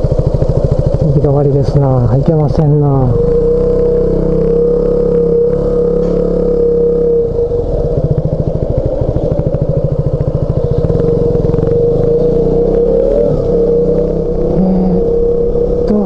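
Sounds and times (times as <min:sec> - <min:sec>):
motorcycle engine thumping: 0:00.0 - 0:15.9.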